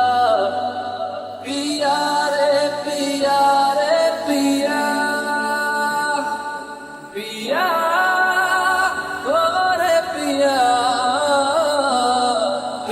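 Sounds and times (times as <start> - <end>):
solo voice singing slow melody: 0.0 - 12.9.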